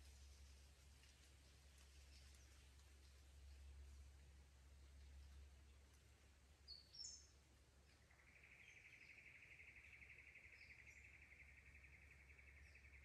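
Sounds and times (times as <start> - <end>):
faint low rumble: 0.0 - 13.0.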